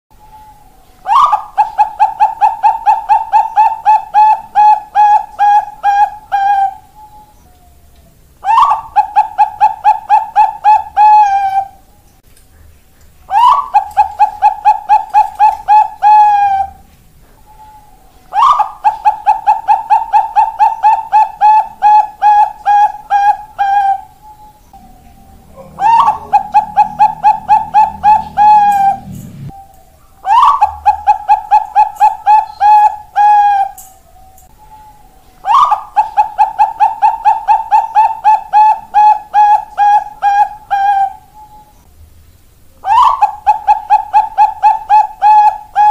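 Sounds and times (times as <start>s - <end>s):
dove cooing: 0.3s - 12.0s, 13.3s - 41.8s, 42.8s - 45.9s.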